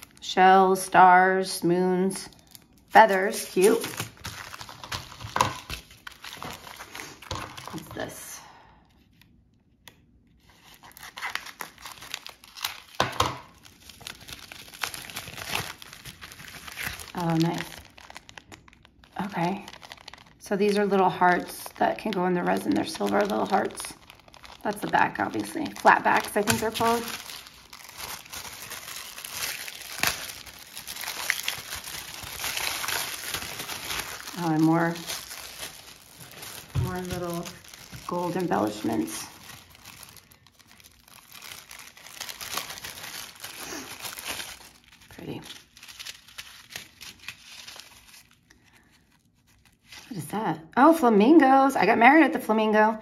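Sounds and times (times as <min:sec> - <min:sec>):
plastic bag crinkling: 0:00.0 - 0:00.4, 0:02.2 - 0:08.2, 0:10.4 - 0:50.2.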